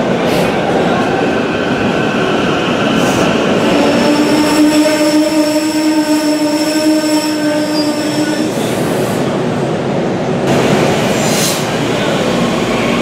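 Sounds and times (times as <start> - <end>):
train pulling into station: 0.0 - 13.0.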